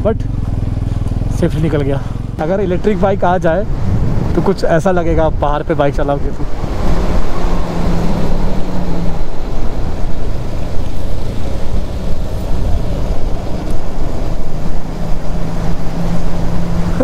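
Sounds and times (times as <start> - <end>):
motorcycle engine hum: 0.0 - 17.0
wind rushing over microphone: 1.2 - 17.0.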